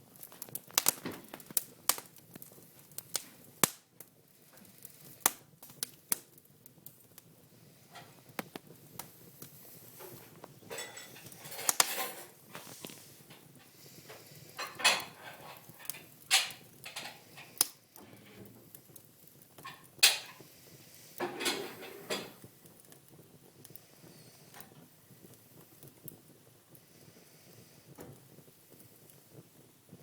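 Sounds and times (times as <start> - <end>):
fire popping: 0.0 - 30.0
wood fire crackling: 0.0 - 30.0.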